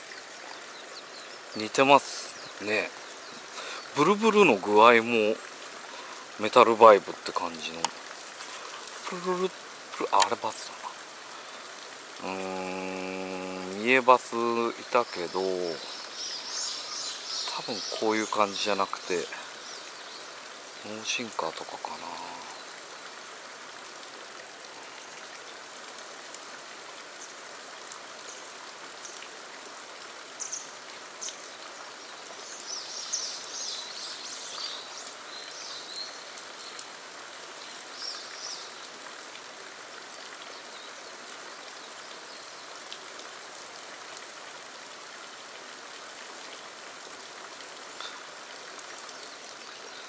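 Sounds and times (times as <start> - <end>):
flowing water rushing: 0.0 - 50.0.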